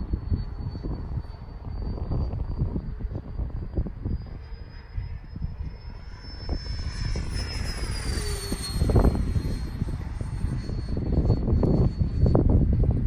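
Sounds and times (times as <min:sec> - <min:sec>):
electric ducted fan whining: 0:00.0 - 0:13.0
wind buffeting microphone: 0:00.0 - 0:13.0.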